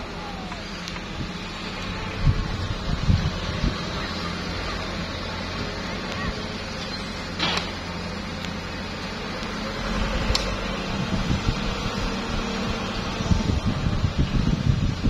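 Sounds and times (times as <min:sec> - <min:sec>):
diesel engines running: 0:00.0 - 0:15.0
truck driving over dirt: 0:00.0 - 0:15.0.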